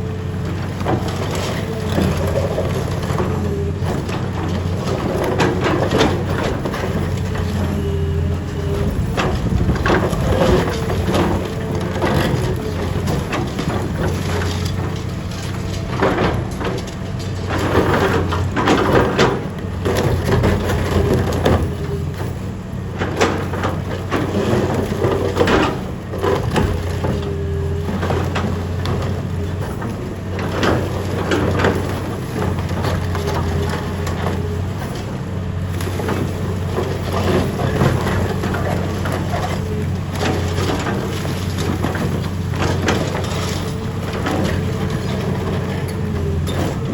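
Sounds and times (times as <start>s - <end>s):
concrete cracking and crunching: 0.0s - 46.9s
diesel engine hum: 0.0s - 46.9s.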